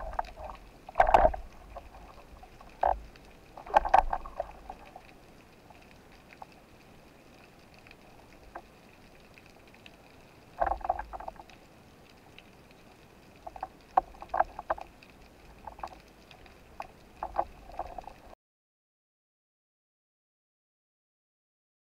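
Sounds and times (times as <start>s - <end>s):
sharp clicks and knocks underwater: 0.0s - 18.4s.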